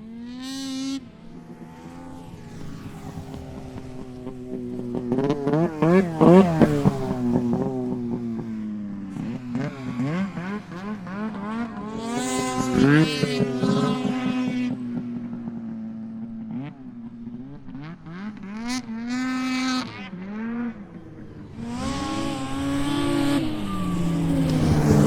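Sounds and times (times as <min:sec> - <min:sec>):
snowmobile engines revving: 0:00.1 - 0:15.5, 0:16.5 - 0:25.0.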